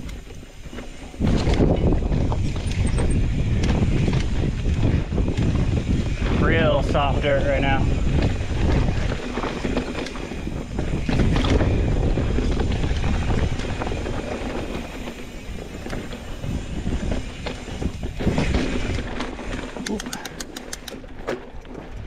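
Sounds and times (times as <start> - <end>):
bike knocks and rattles: 0.0 - 22.0
bike rolling on dirt trail: 0.0 - 22.0
wind on microphone: 0.0 - 22.0.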